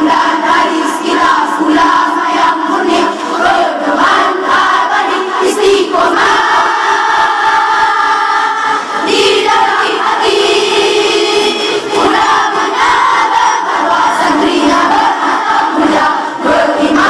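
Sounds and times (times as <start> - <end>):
girls' choir singing: 0.0 - 17.0.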